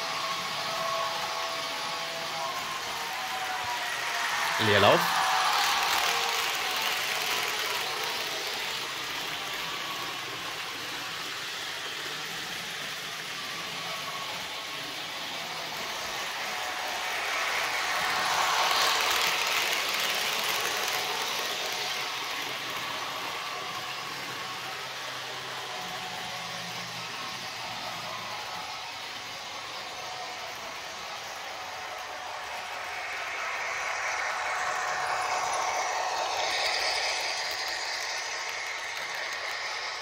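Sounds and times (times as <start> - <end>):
model diesel locomotive idling: 0.0 - 40.0.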